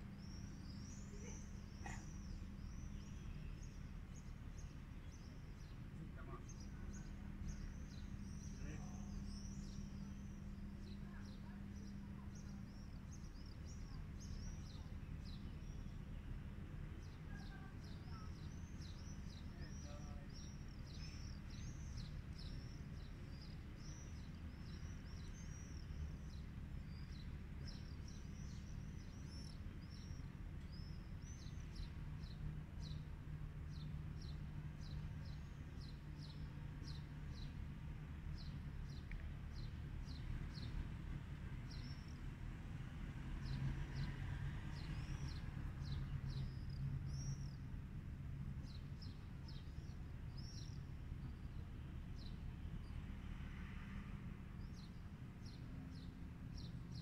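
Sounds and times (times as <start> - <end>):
small birds chirping: 0.0 - 42.2, 43.4 - 53.6, 54.6 - 57.0
low city rumble: 0.0 - 57.0.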